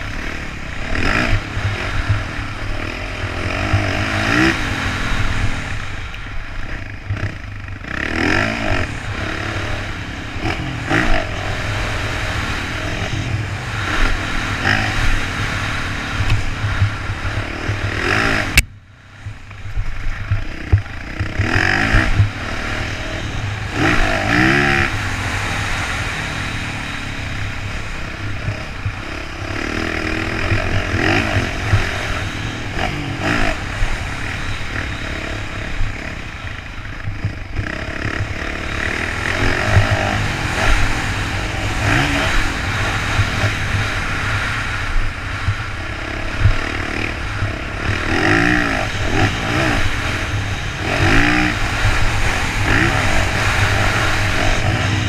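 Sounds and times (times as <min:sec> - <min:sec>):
dirt bike engine revving: 0:00.0 - 0:55.0
wind rumble on microphone: 0:00.0 - 0:55.0.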